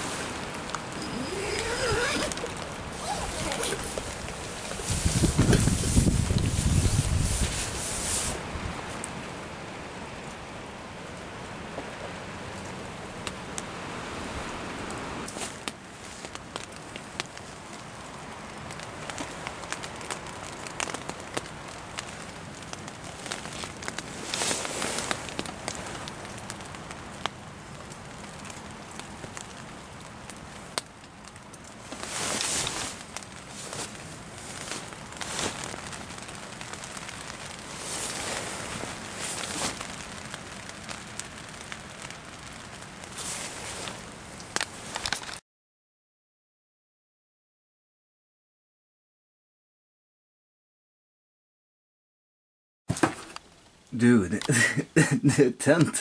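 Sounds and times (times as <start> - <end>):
heavy rain hissing: 0.0 - 45.0, 54.0 - 56.0
wind gusts: 0.0 - 45.3.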